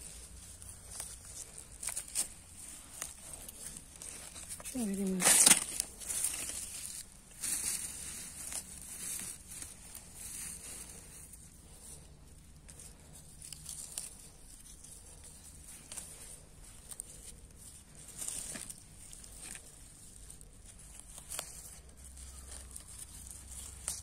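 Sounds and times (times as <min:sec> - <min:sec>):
leafy greens rustling and crackling: 0:00.0 - 0:24.0.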